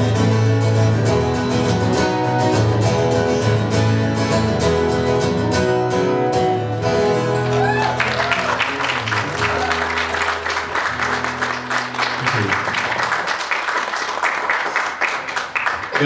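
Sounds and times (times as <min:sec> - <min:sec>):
acoustic guitars strumming: 0:00.0 - 0:13.5.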